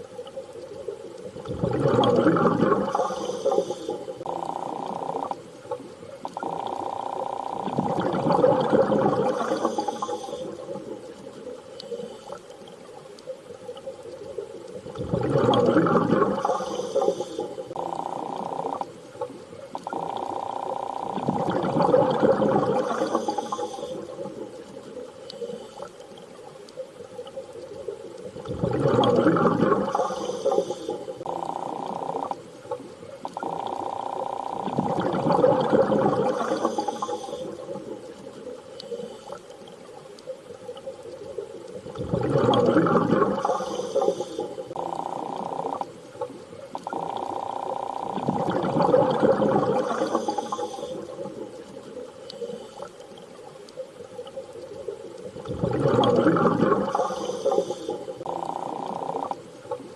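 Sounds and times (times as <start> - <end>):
underwater rushing water: 0.0 - 59.9.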